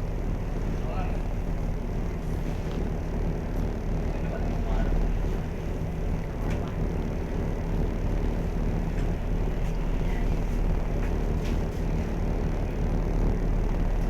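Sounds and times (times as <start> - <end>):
ship engines droning: 0.0 - 14.0.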